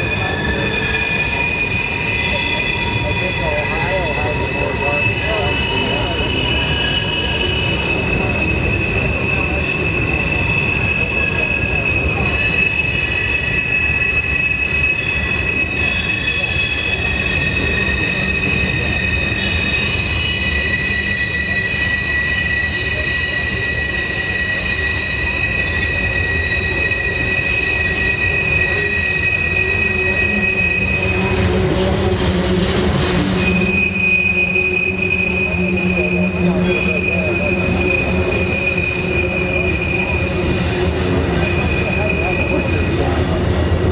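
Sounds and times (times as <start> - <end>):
rumble of rolling train: 0.0 - 43.9
train wheels squealing on rail: 0.0 - 43.9.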